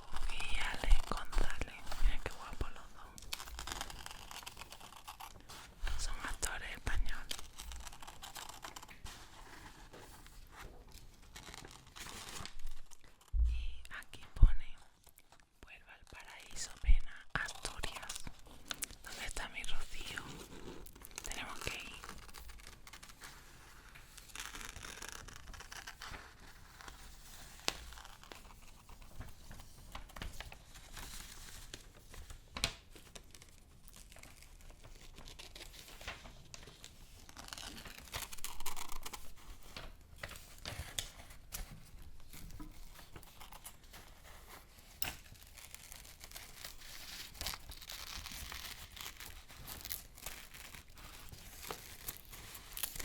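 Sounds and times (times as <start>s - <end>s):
paper crinkling and tearing: 0.0s - 13.4s, 17.4s - 53.0s.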